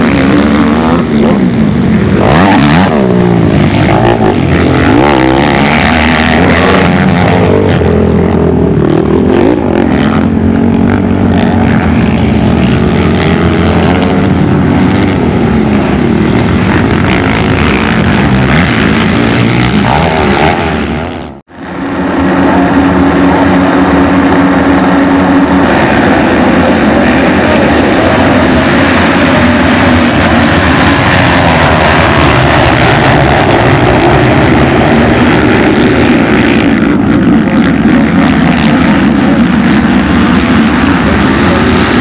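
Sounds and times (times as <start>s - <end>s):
quad engines revving: 0.0s - 42.0s.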